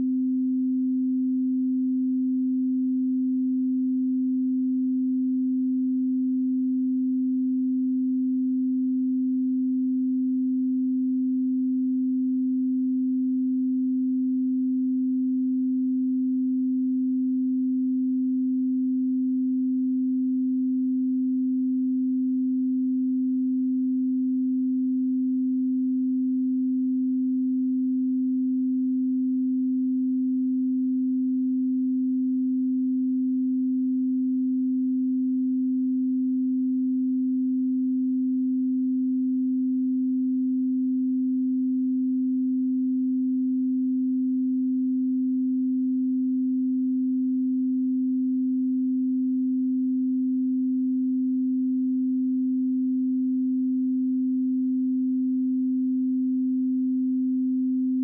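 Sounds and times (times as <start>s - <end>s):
sine wave test tone: 0.0s - 58.0s.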